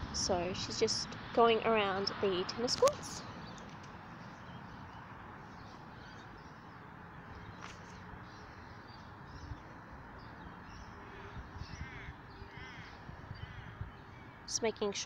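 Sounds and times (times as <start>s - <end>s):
low outdoor rumble: 0.0s - 15.0s
faint birds chirping: 2.9s - 15.0s.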